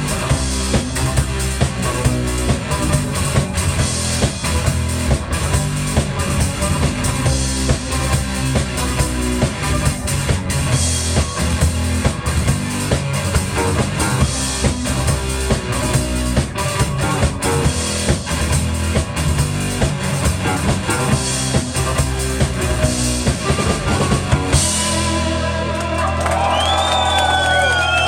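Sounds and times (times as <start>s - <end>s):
drum kit beat: 0.0s - 25.7s
bass guitar: 0.0s - 28.0s
electric guitar: 0.0s - 28.0s.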